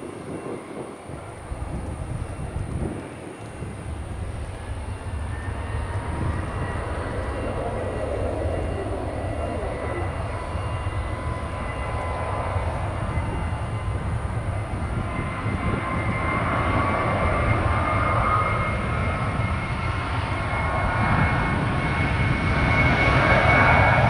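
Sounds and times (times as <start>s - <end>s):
jet engines rumbling and whining: 0.0s - 24.0s.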